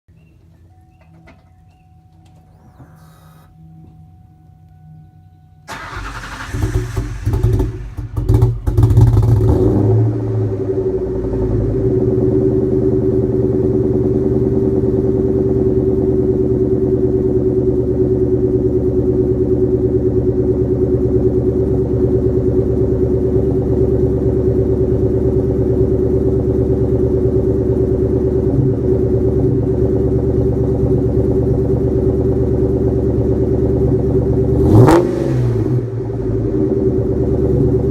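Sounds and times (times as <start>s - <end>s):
car engine starting and idling: 0.1s - 37.9s.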